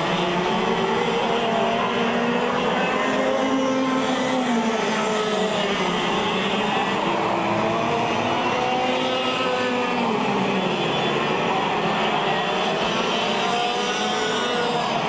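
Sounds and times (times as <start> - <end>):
kart engines racing: 0.0 - 15.0.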